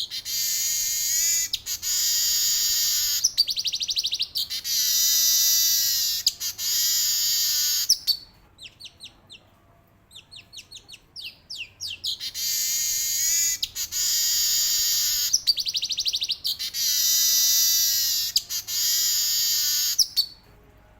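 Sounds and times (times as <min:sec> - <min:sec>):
weaver bird singing: 0:00.0 - 0:09.2, 0:10.1 - 0:20.4.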